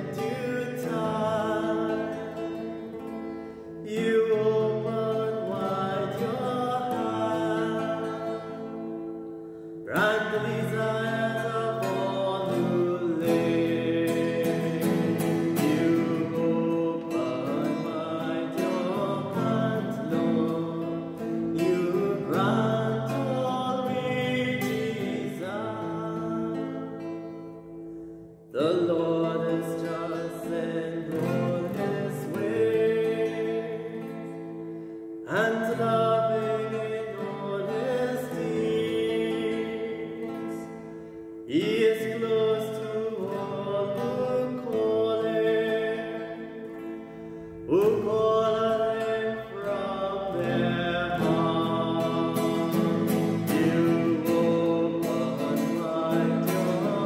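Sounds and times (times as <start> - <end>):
man singing: 0.0 - 27.6, 28.4 - 57.0
classical guitar chords: 0.0 - 57.0.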